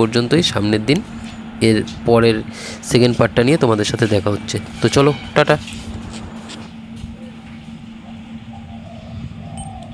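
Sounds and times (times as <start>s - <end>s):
low hum: 0.0s - 9.9s.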